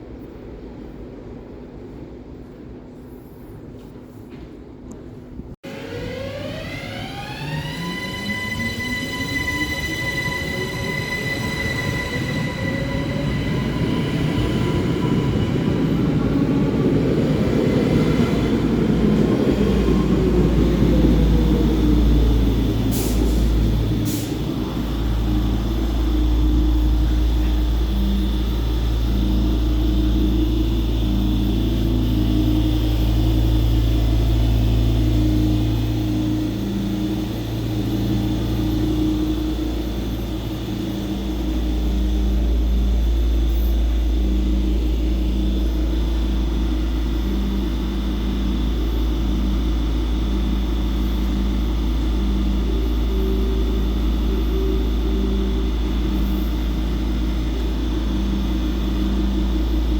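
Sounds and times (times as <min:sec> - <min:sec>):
train rumble: 0:00.0 - 0:59.9
electric train motor whine: 0:05.6 - 0:59.9.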